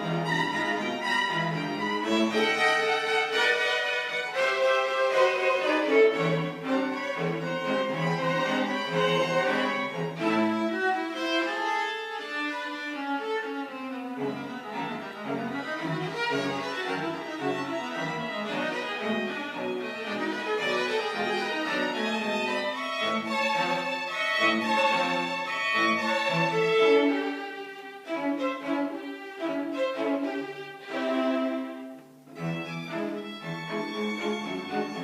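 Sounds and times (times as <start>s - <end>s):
string quartet playing: 0.0s - 35.0s.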